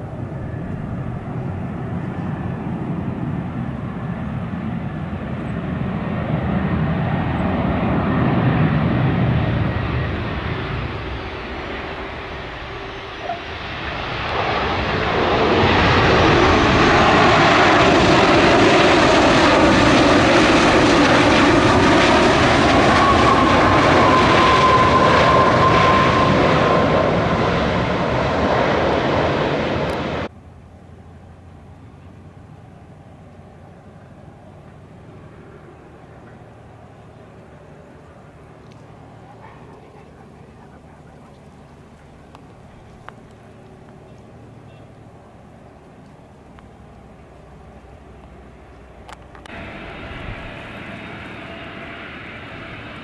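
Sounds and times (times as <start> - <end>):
jet engines running: 0.0 - 30.3, 31.1 - 53.0
high engine whine: 0.0 - 53.0.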